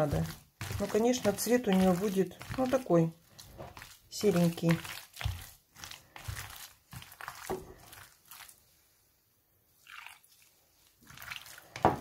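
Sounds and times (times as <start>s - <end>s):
hand kneading meat in a bowl: 0.0s - 12.0s.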